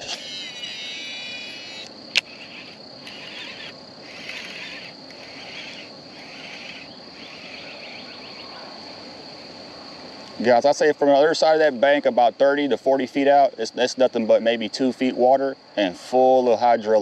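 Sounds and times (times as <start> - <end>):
insects buzzing: 0.0 - 17.0
quick insect trill: 0.0 - 17.0
raspy insect call: 0.0 - 17.0.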